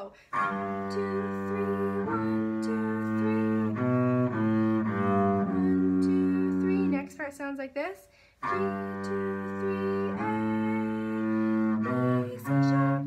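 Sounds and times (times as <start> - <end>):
bowed double bass melody: 0.0 - 7.2, 8.4 - 13.0.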